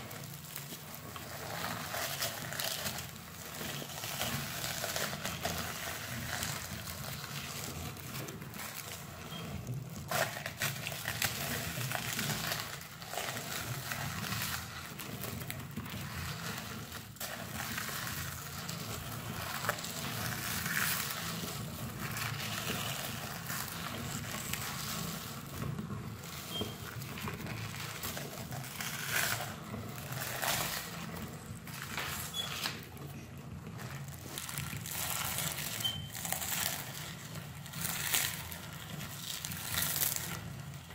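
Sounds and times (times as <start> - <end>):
meat grinder crushing snack: 0.0 - 40.9.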